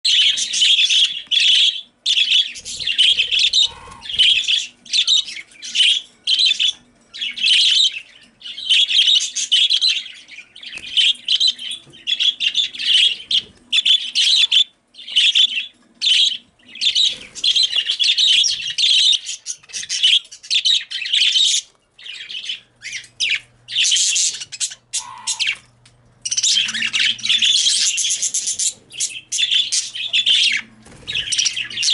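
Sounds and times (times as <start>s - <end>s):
budgerigars chirping: 0.1s - 31.9s.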